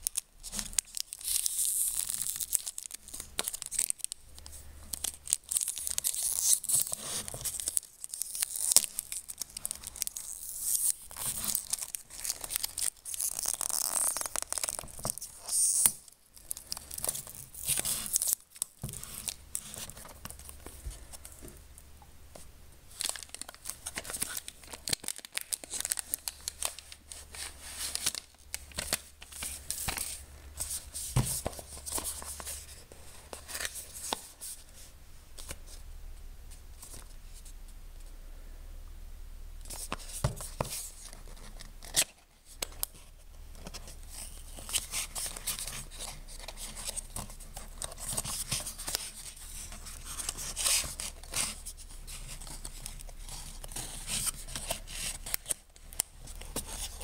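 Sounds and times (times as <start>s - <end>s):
cellophane wrap crinkling: 0.0s - 21.4s, 22.9s - 34.6s, 39.7s - 57.0s.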